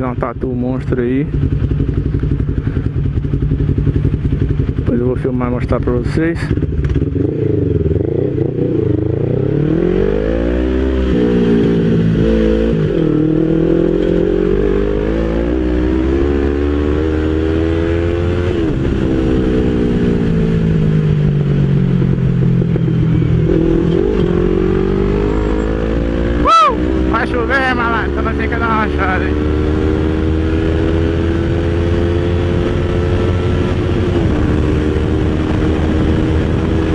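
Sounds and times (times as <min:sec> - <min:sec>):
wind and road noise: 0:00.0 - 0:36.9
motorcycle engine accelerating: 0:00.9 - 0:36.9.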